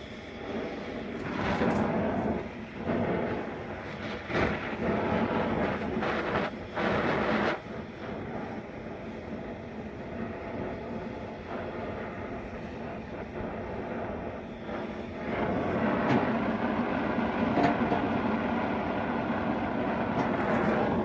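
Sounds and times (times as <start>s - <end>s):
cutting torch flame roaring: 0.0s - 21.0s.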